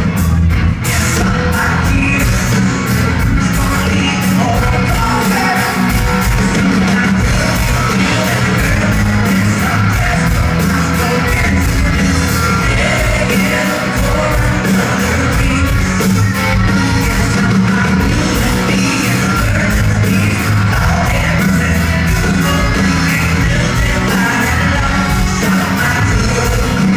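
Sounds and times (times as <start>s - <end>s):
country-rock band playing: 0.0s - 26.9s
man singing lead: 0.8s - 26.9s.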